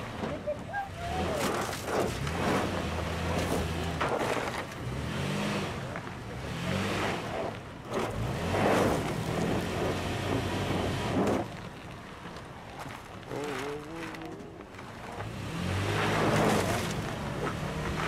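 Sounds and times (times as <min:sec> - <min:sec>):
wheels scrabbling on ground: 0:00.0 - 0:06.2, 0:06.8 - 0:18.0
engine revving: 0:00.0 - 0:11.5, 0:13.3 - 0:18.0.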